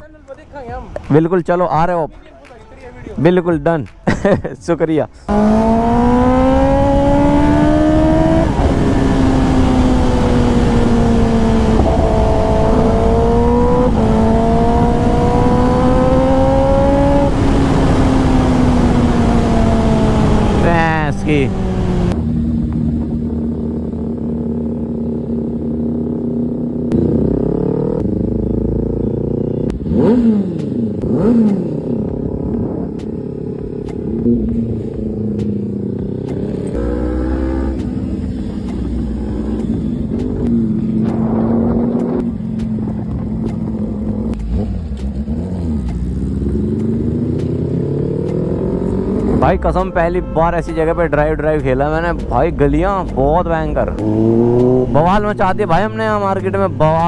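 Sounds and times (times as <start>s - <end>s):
motorcycle engine revving: 5.3s - 49.7s, 51.8s - 57.0s.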